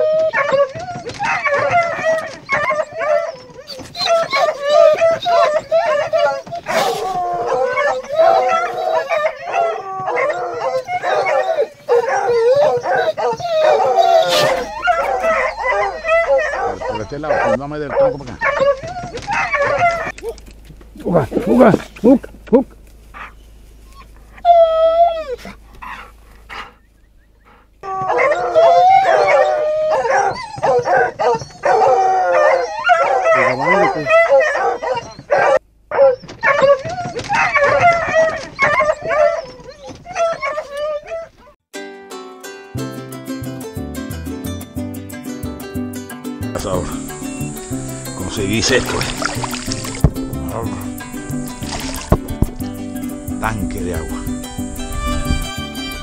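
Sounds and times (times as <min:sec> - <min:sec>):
hounds baying and howling: 0:00.0 - 0:41.6, 0:46.6 - 0:56.0.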